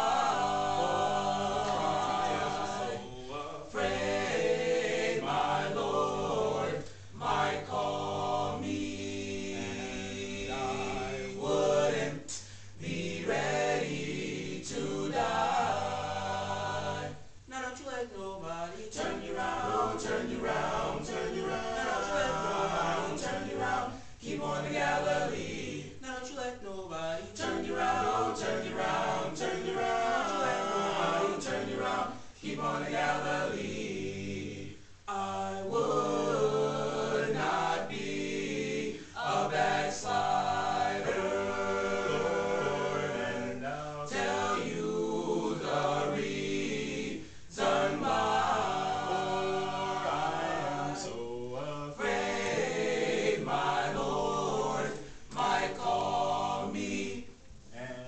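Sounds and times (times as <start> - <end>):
male a cappella group singing: 0.0 - 58.0.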